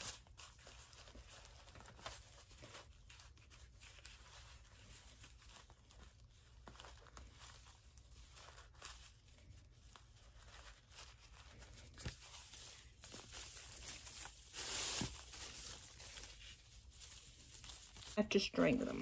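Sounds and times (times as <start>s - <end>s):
plastic strips rustling: 0.0s - 19.0s.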